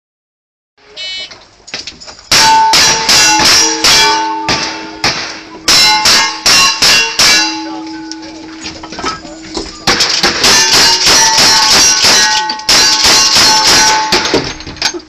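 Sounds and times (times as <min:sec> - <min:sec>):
steel target ringing: 0:02.3 - 0:15.0.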